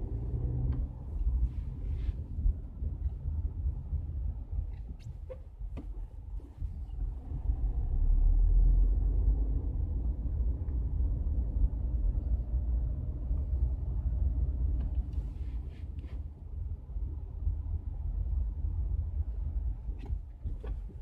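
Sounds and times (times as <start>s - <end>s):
road and tyre rumble: 0.0s - 21.0s.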